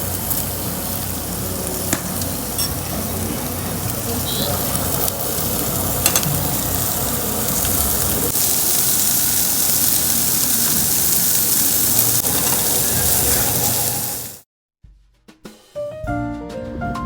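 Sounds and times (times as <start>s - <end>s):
pork sizzling on a grill: 0.0s - 14.4s.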